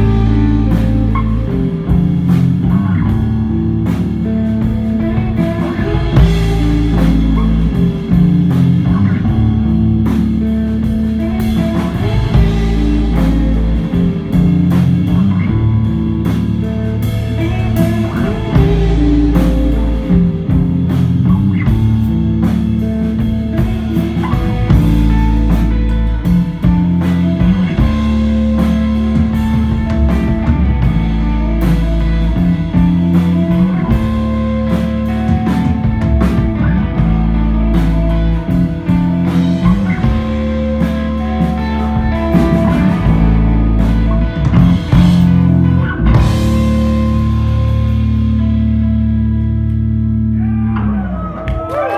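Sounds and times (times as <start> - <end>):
bass guitar notes: 0.0 - 51.9
drum kit: 0.0 - 51.9
electric guitar: 0.0 - 51.9.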